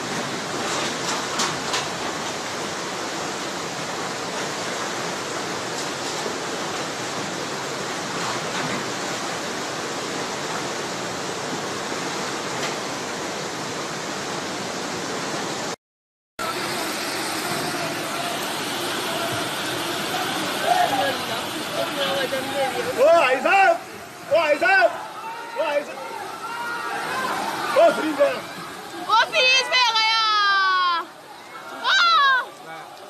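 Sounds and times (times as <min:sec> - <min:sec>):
floodwater rushing: 0:00.0 - 0:15.8, 0:16.4 - 0:33.0.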